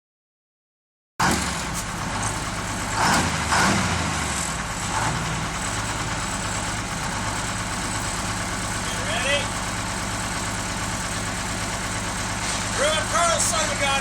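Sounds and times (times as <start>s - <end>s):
truck engine idling: 1.2s - 14.0s.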